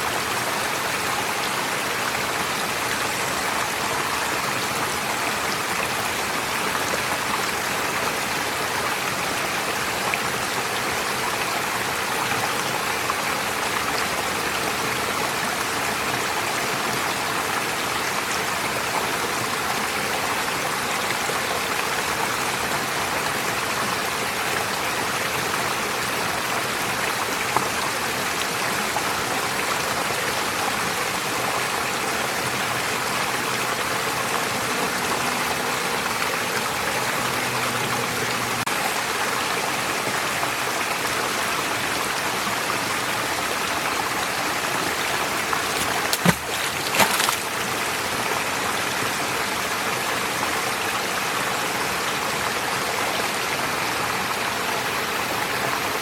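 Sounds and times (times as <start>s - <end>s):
stream splashing over stones: 0.0s - 51.5s.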